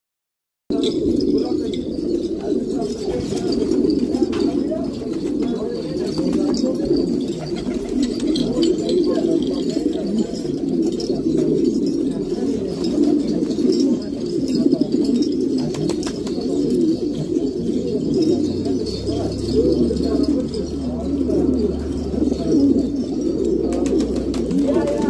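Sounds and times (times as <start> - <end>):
pigeons cooing: 0.7 - 25.0.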